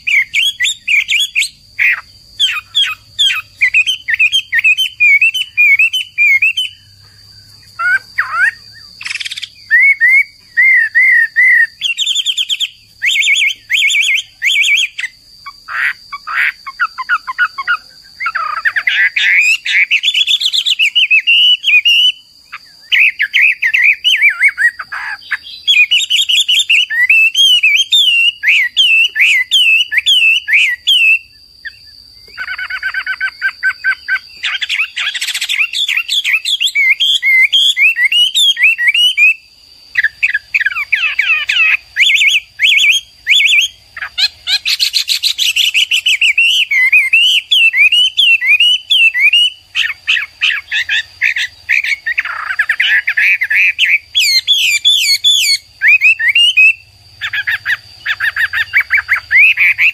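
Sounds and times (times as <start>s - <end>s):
bird singing whistled song: 0.0s - 59.9s.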